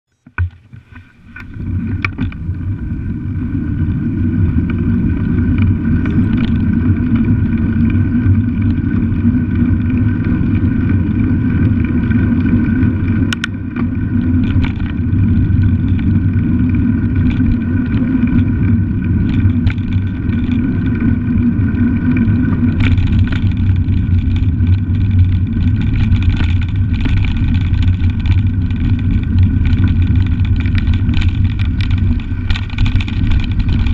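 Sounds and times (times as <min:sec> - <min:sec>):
bicycle tyres rolling: 0:00.2 - 0:33.9
wind buffeting microphone: 0:01.2 - 0:33.9.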